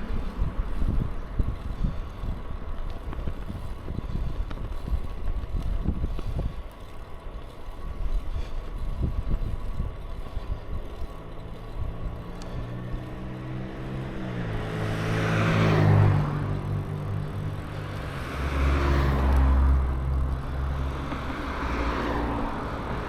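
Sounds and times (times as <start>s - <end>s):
motor vehicle engine hum: 0.0s - 23.0s
wind buffeting microphone: 0.0s - 23.0s.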